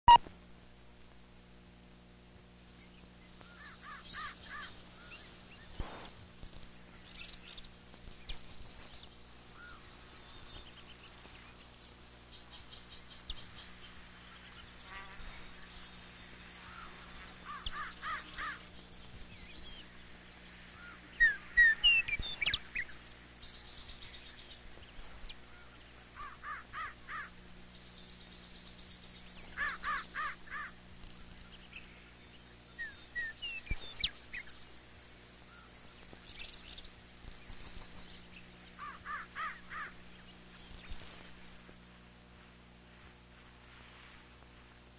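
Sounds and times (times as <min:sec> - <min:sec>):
faint low hum: 0:00.1 - 0:44.9.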